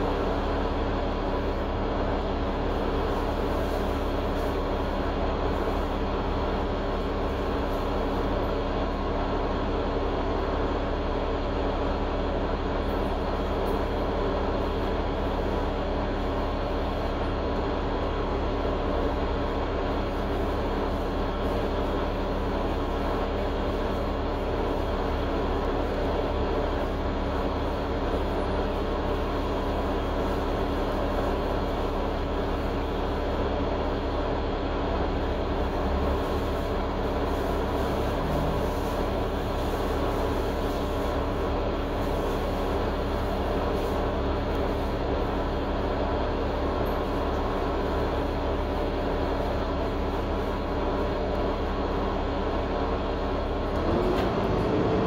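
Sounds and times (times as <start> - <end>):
bus diesel engine humming: 0.0 - 55.0.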